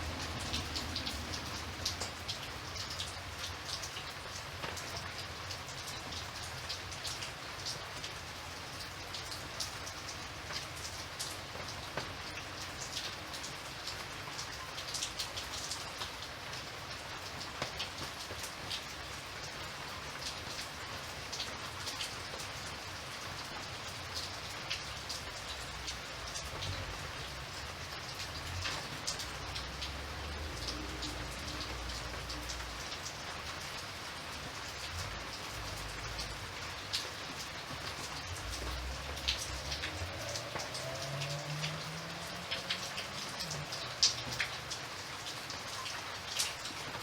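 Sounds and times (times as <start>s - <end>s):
steady rain: 0.0s - 47.0s.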